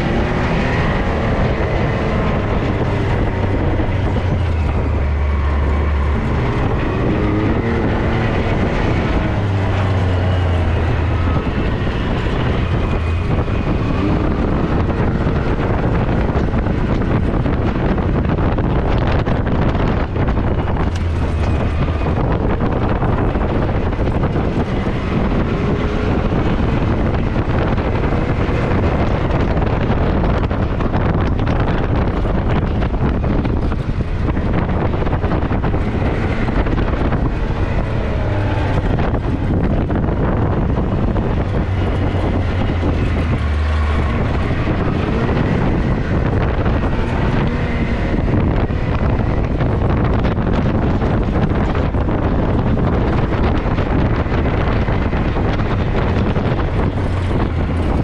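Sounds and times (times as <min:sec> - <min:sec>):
off-road vehicle engine droning: 0:00.0 - 0:58.0
wind buffeting microphone: 0:00.0 - 0:58.0.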